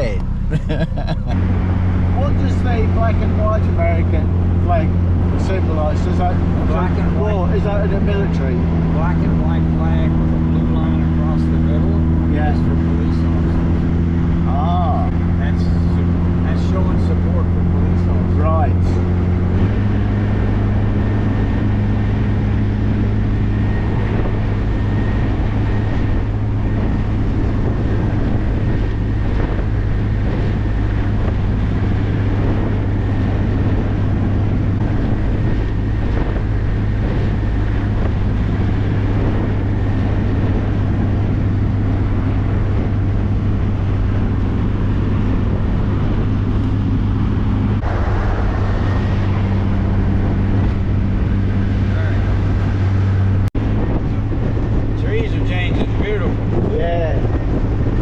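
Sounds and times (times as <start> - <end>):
car engine cruising: 0.0 - 58.0
wind and road noise: 0.0 - 58.0.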